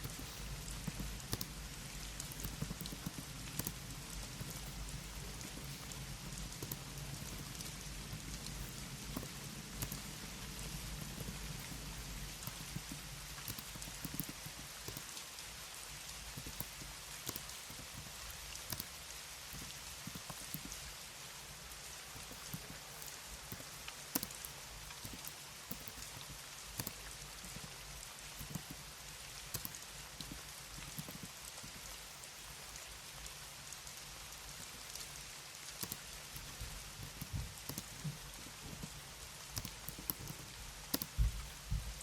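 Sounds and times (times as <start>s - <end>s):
computer keyboard typing: 0.0s - 32.9s, 34.7s - 42.0s
rain: 0.0s - 42.0s.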